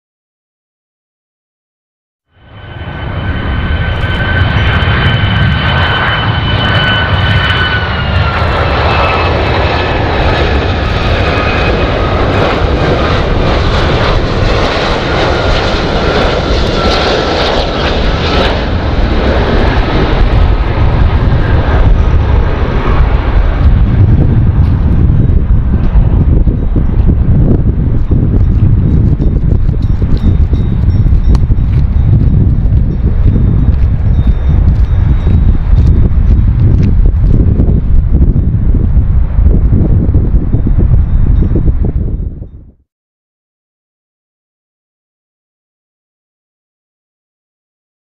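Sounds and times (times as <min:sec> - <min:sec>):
low rumble: 0:02.2 - 0:42.8
jet engines whining: 0:02.3 - 0:42.2.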